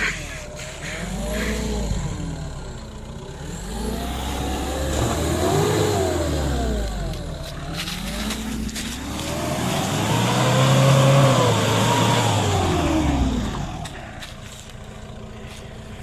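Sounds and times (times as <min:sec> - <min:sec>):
suv engine revving: 0:00.0 - 0:16.0.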